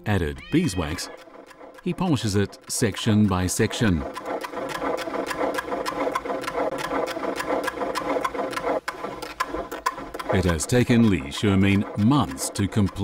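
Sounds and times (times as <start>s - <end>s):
wood-turning lathe clattering: 0.0s - 13.0s.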